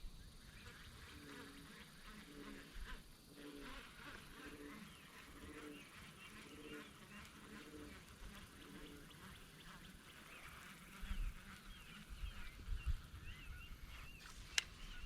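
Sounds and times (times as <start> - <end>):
faint waterfowl calling: 0.4 - 15.0.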